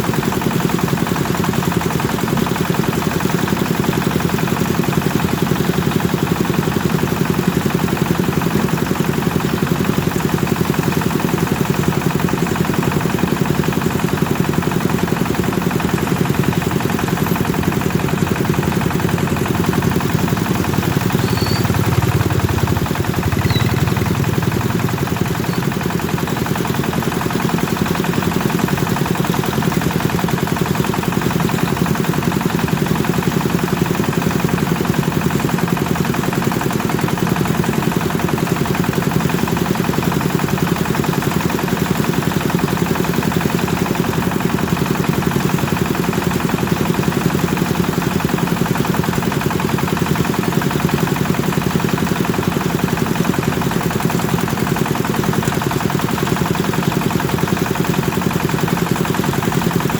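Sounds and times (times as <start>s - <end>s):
threshing machine engine chugging: 0.0s - 59.9s.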